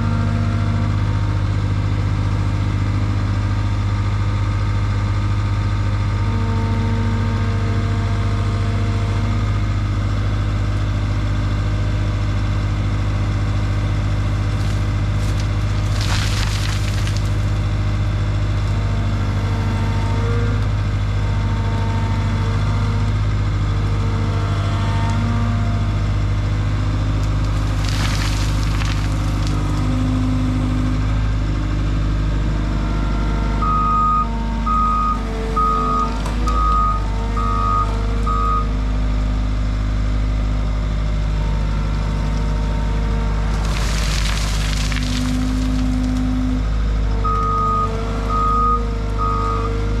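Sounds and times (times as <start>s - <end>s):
skid steer engine running: 0.0s - 50.0s.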